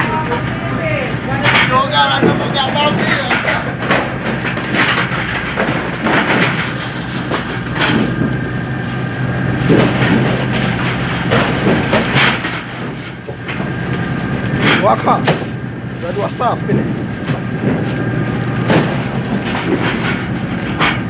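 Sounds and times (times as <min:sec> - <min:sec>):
boat machinery low drone: 0:00.0 - 0:21.0
machinery clattering knocks: 0:01.3 - 0:15.6, 0:16.5 - 0:21.0.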